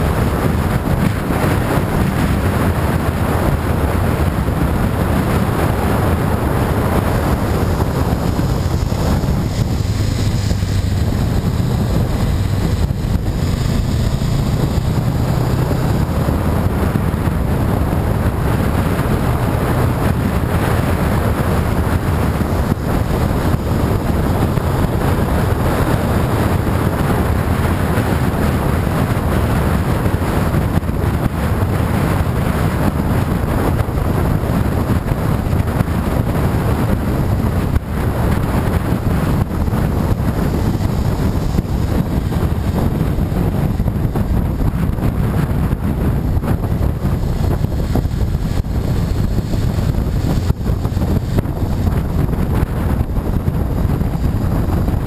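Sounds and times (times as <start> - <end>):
motorcycle engine drone: 0.0 - 55.0
wind rush on microphone: 0.0 - 55.0.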